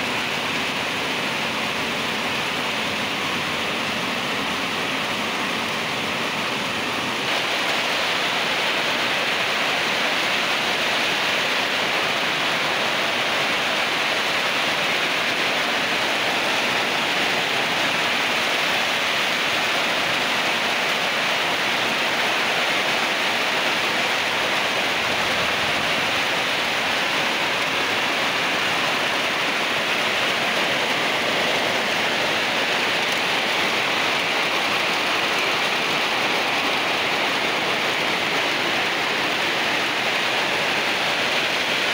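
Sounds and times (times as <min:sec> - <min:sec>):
heavy rain on metal roofs: 0:00.0 - 0:41.9.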